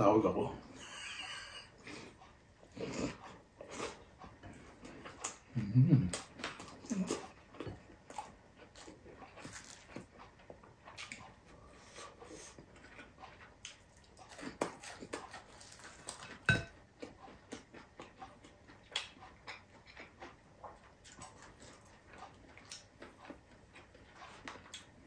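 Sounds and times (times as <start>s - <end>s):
chewing: 0.6s - 25.0s.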